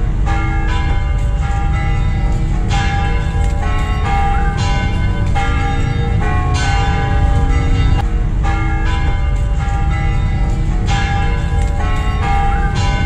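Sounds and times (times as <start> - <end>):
church bells ringing: 0.0 - 13.0
low rumble: 0.0 - 13.0.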